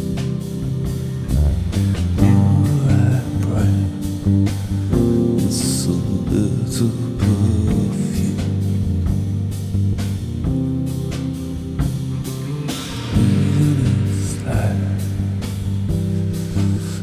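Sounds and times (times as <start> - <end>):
slow instrumental band music: 0.0 - 17.0.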